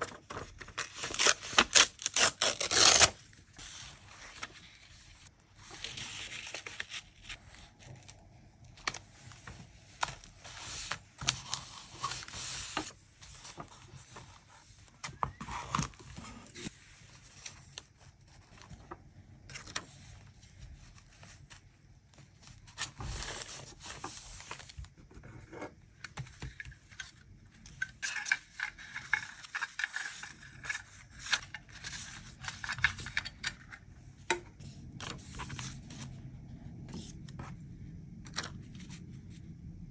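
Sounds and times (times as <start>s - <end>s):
paper and stickers rustling: 0.0s - 25.6s, 26.2s - 33.7s.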